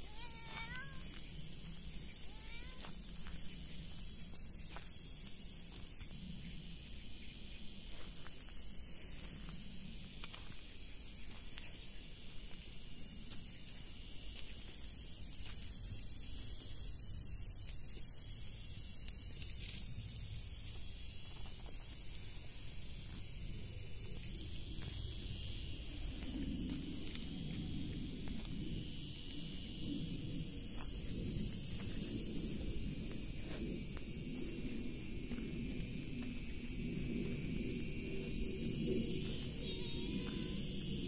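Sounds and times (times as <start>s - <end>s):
insects chorus: 0.0s - 41.0s.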